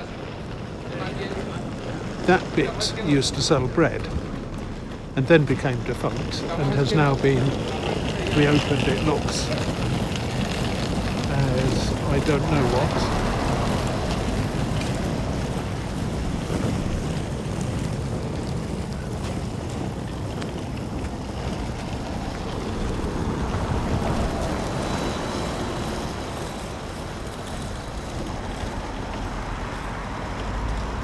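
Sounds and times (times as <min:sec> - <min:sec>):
road traffic passing: 0:00.0 - 0:31.0
wind buffeting microphone: 0:00.0 - 0:31.0.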